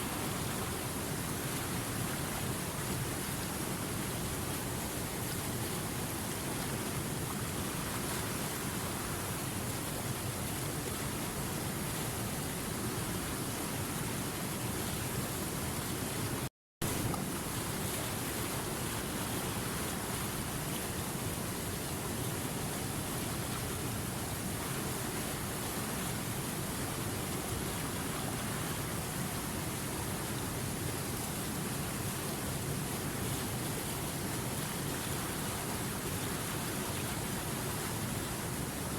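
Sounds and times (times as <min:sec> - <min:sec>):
river water over rapids: 0:00.0 - 0:38.9.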